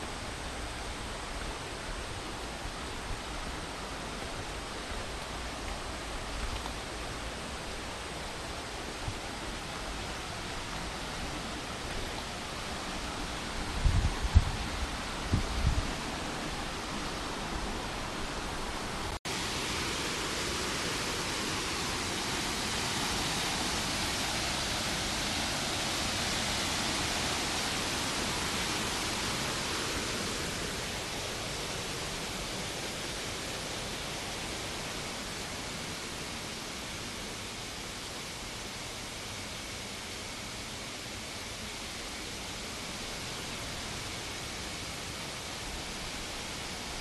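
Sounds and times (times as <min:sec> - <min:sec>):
waterfall rushing water: 0:00.0 - 0:47.0.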